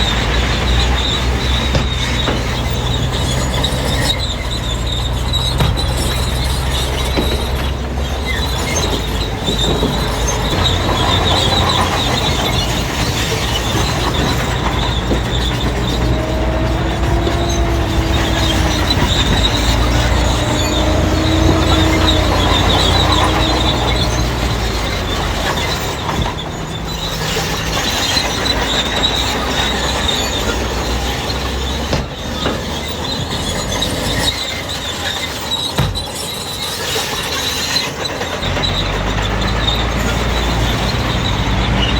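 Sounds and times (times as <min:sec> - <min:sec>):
bulldozer diesel engine: 0:00.0 - 0:41.9
steel tracks squealing and clanking: 0:00.0 - 0:41.9.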